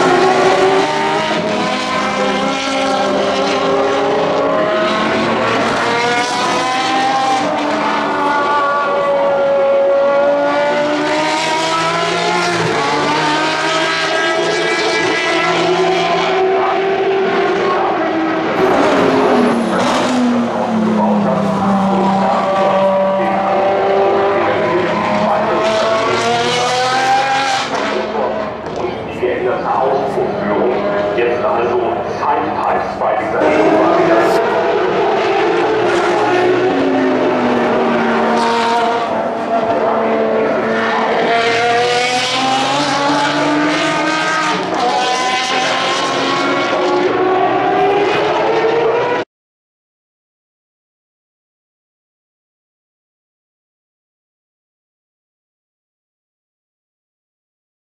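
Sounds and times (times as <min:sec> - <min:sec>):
race car engine running: 0:00.0 - 0:49.2.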